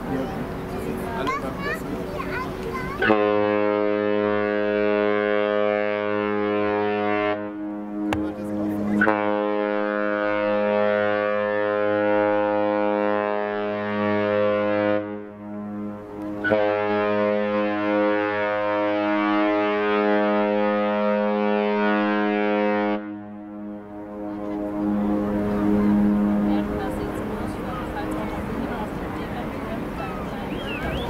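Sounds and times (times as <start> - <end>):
ship horn blasts: 2.9 - 31.0.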